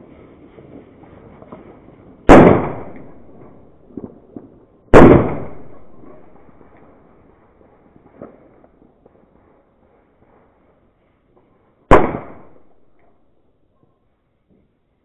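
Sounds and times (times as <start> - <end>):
firecracker bangs echoing: 0.0 - 13.4.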